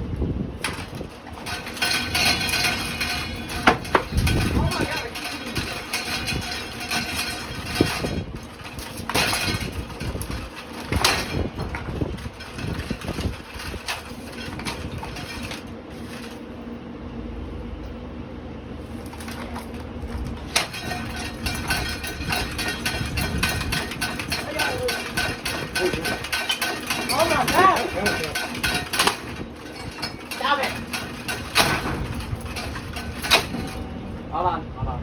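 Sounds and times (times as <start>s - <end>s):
ceiling fan humming: 0.0s - 35.0s
sharp knocks and clatters: 0.6s - 16.4s, 19.1s - 33.9s.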